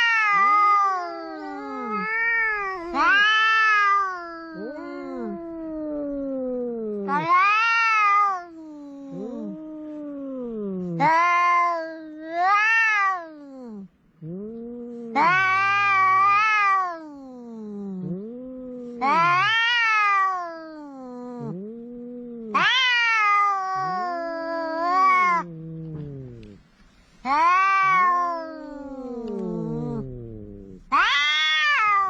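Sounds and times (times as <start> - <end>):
cats yowling: 0.0 - 26.6, 27.2 - 32.0.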